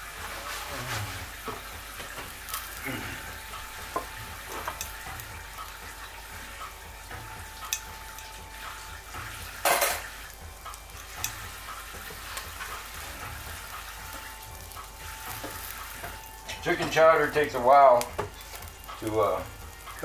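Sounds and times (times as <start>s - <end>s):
bacon sizzling in a pot: 0.0s - 20.0s.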